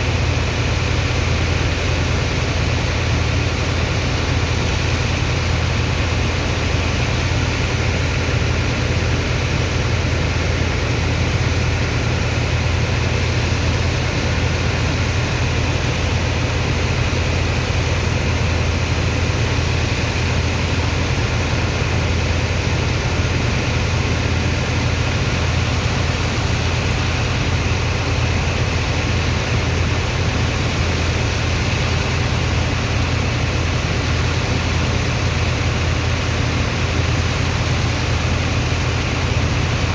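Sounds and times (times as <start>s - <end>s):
engine deep drone: 0.0s - 39.9s
pump rushing noise: 0.0s - 39.9s.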